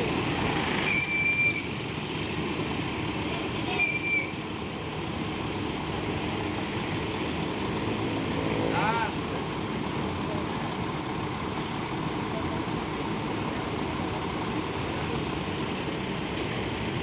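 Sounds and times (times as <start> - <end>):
bus engine running: 0.0 - 17.0
road and traffic rumble: 0.0 - 17.0.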